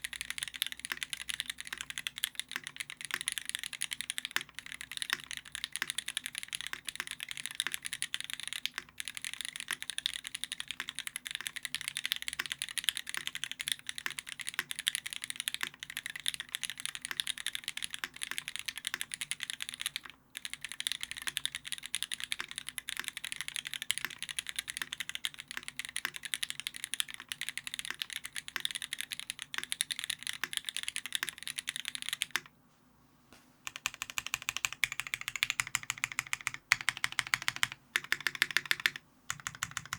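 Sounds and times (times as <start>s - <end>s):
mechanical keyboard typing: 0.0s - 32.5s, 33.7s - 39.9s.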